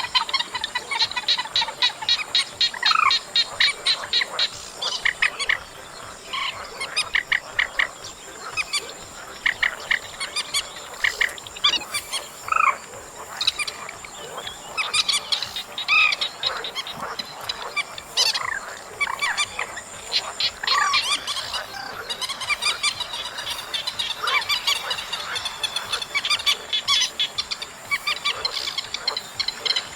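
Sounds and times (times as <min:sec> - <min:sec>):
harsh bird call notes: 0:00.0 - 0:29.9.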